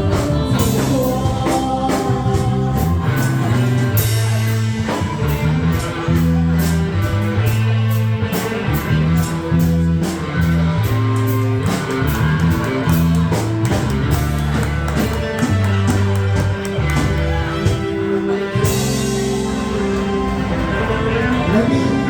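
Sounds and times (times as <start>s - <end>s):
bass: 0.0s - 22.0s
drum kit steady beat: 0.0s - 22.0s
guitar: 0.0s - 22.0s.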